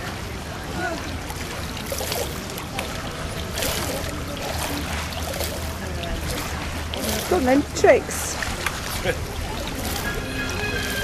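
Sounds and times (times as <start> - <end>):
light splashes from swimmers: 0.0 - 11.0
pool water noise: 0.0 - 11.0.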